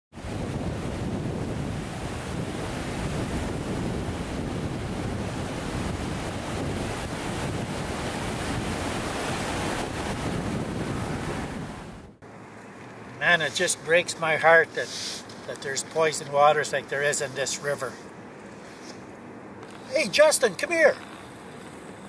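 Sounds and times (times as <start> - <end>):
rushing water: 0.1 - 18.7, 19.6 - 22.0.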